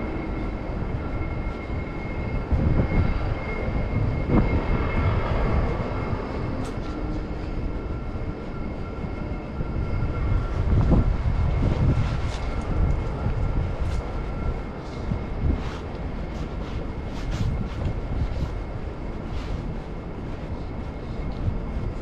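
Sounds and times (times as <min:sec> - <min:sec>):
faint steady whine: 0:00.0 - 0:22.0
train passing: 0:00.0 - 0:22.0.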